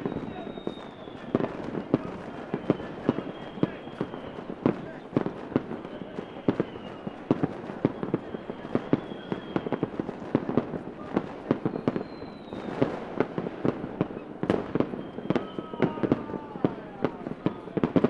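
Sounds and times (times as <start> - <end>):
falling firework whistle: 0.0 - 18.0
fireworks bangs and crackling pops: 0.0 - 18.0.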